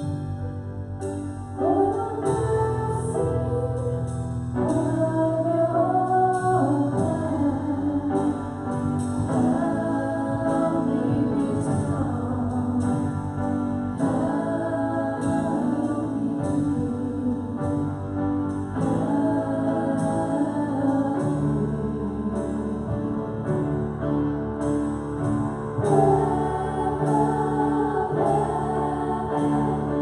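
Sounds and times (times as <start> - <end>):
piano: 0.0 - 30.0
women singing worship song: 1.6 - 23.2, 25.8 - 30.0
band playing: 4.6 - 30.0.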